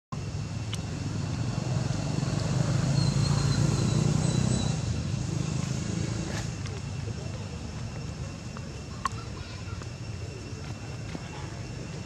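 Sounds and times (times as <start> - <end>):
vehicle engine rumble: 0.1 - 12.0.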